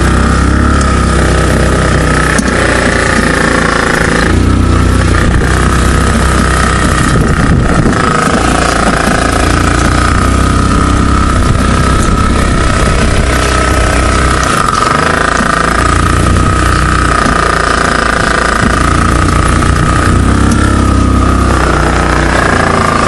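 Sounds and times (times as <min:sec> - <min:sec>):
dune buggy engine driving: 0:00.0 - 0:23.0.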